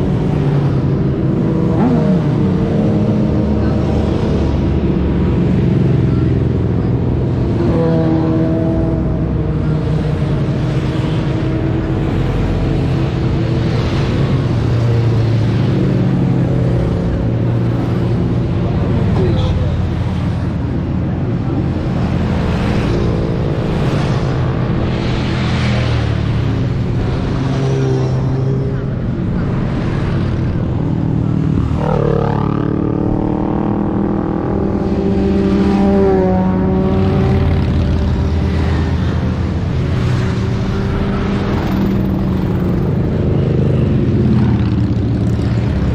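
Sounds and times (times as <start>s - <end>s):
motorcycle engines running: 0.0s - 45.9s.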